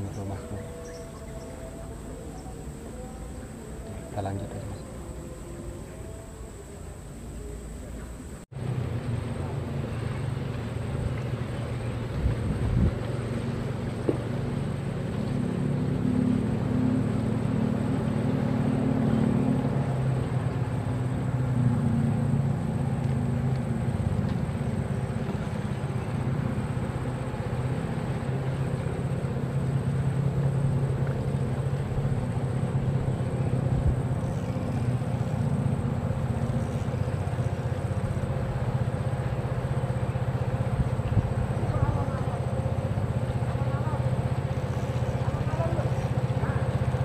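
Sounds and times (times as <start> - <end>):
low engine drone: 0.0 - 47.0.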